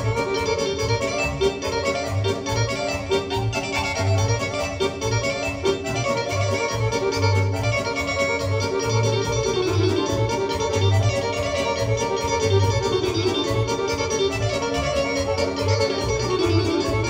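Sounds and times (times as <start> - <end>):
organ-like synthesizer melody: 0.0 - 17.0.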